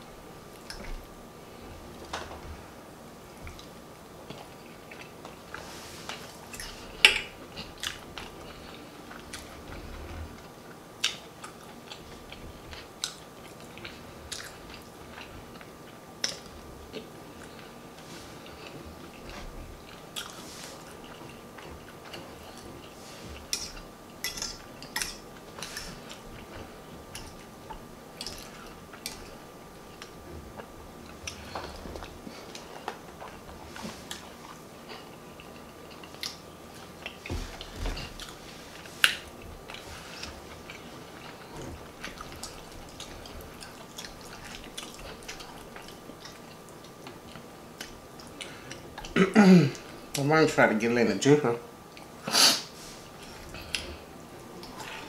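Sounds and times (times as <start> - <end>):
chewing and lip-smacking: 0.5 - 1.6, 3.4 - 17.7, 18.4 - 49.2.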